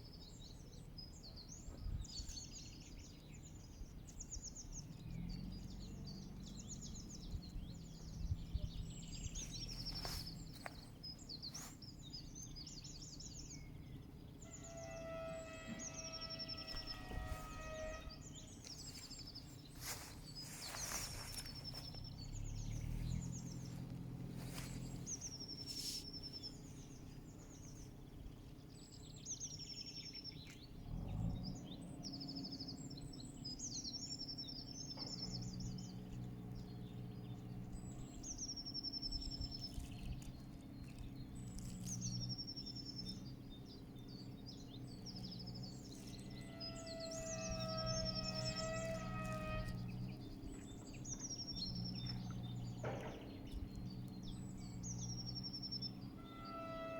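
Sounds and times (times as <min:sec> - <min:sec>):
low ambient rumble: 0:00.0 - 0:56.9
songbirds trilling: 0:00.0 - 0:56.9.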